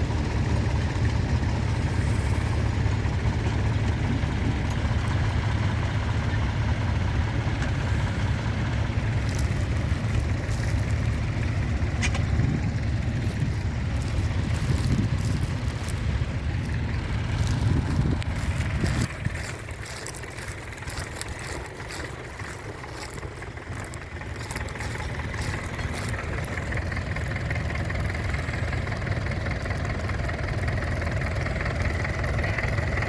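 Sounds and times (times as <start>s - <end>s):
tractor engine droning: 0.0s - 33.0s.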